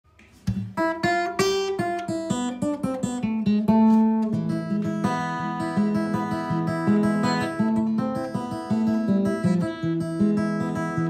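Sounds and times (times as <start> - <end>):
acoustic guitar picked notes: 0.2 - 11.0.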